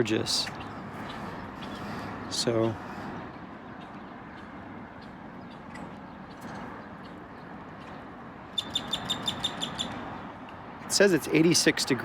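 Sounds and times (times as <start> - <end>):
low traffic-like rumble: 0.0 - 12.0.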